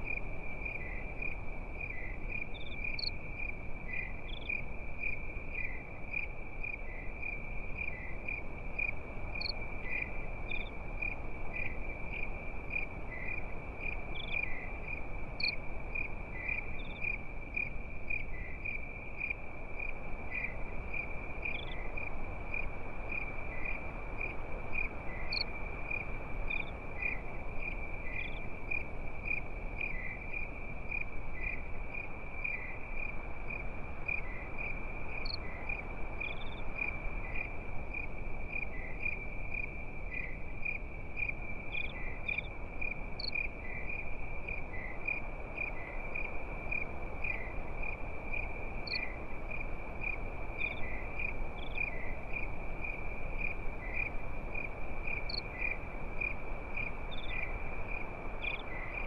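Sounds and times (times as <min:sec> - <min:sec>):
background hiss: 0:00.0 - 0:59.0
crickets chirping: 0:00.0 - 0:59.0.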